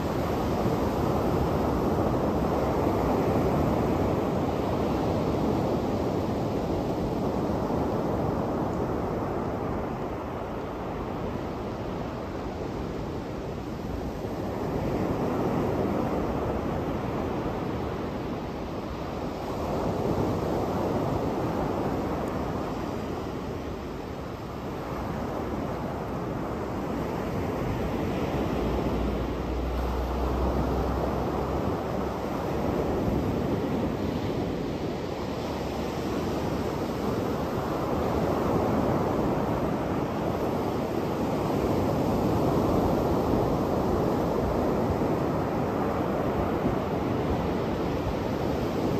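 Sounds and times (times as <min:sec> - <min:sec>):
waves breaking on beach: 0:00.0 - 0:48.9.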